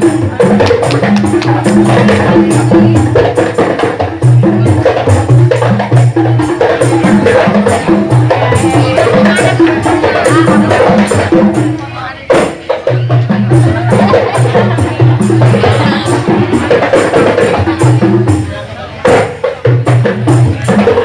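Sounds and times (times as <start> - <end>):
frame drums fast rhythm: 0.0 - 21.0.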